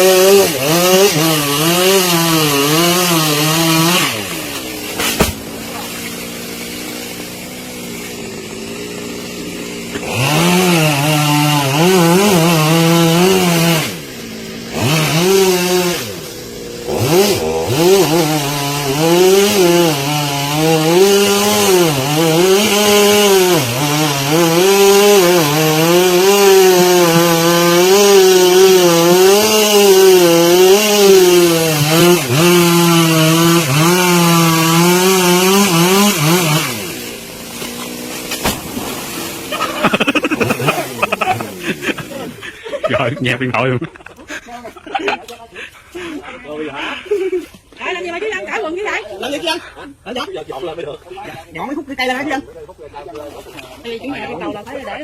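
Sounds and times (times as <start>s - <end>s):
chainsaw cutting wood: 0.0s - 46.1s.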